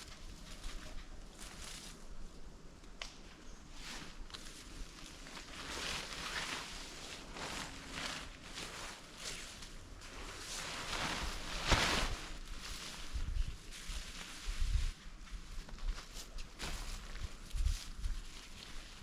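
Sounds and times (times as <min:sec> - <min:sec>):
rustling of camp gear being packed: 0:00.0 - 0:02.4, 0:03.3 - 0:19.0.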